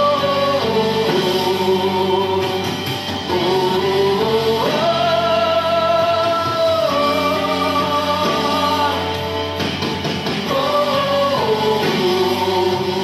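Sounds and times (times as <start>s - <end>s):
instrumental backing music: 0.0s - 13.0s.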